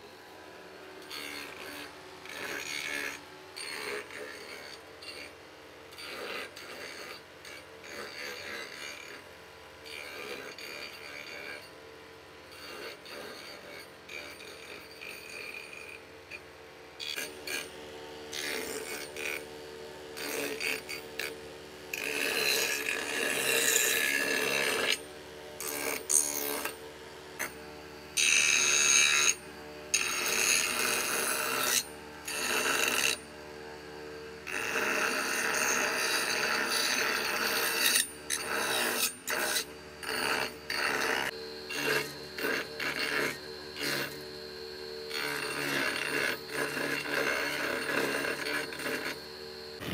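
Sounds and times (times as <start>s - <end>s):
wood rasping on abrasive disc: 1.0s - 11.7s, 12.4s - 16.4s, 17.0s - 49.9s.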